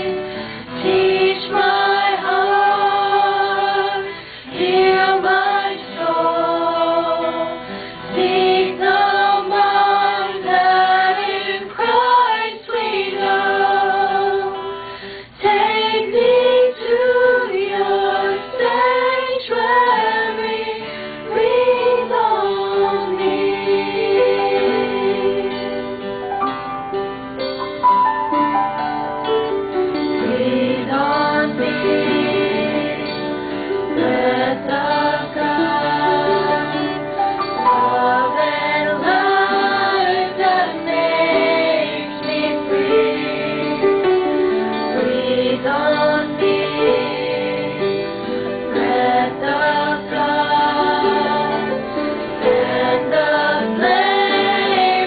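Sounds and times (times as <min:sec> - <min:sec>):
choir singing worship song: 0:00.0 - 0:26.6, 0:29.9 - 0:55.0
acoustic guitar: 0:00.0 - 0:55.0.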